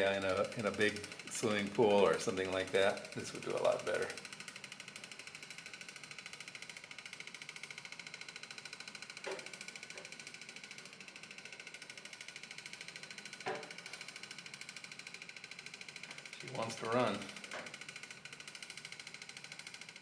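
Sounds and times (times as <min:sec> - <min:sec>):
small electric motor fluttering: 0:00.0 - 0:20.0.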